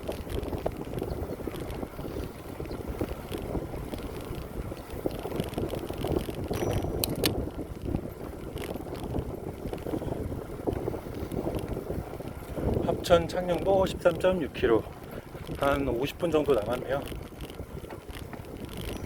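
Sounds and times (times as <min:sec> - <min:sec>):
bicycle rolling: 0:00.0 - 0:19.0
wind on microphone: 0:00.0 - 0:19.0.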